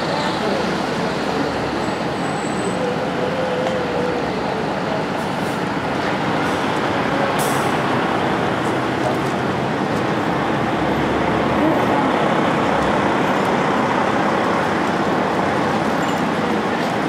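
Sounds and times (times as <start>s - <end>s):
passing vehicle rumble: 0.0s - 17.0s
road traffic passing: 0.0s - 17.0s.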